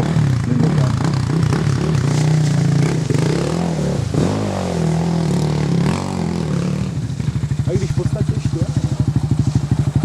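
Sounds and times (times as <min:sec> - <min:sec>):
quad engine revving: 0:00.0 - 0:10.0.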